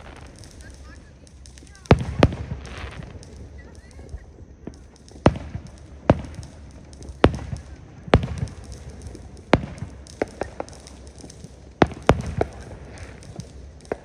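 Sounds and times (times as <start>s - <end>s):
fireworks banging: 0.0s - 14.0s
light firework cracks: 0.0s - 14.0s.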